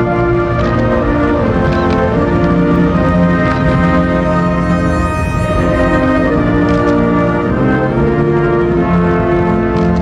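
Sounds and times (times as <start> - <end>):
instrumental anthem with held chords: 0.0 - 10.0.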